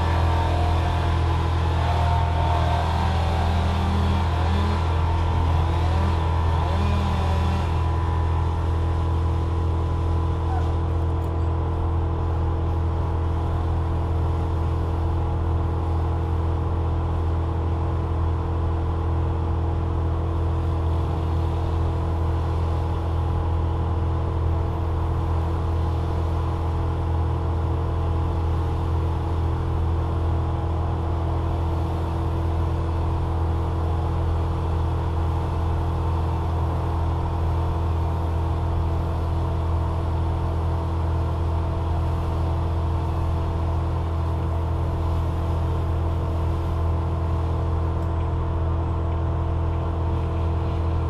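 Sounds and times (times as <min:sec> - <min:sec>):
engine humming steadily: 0:00.0 - 0:51.0.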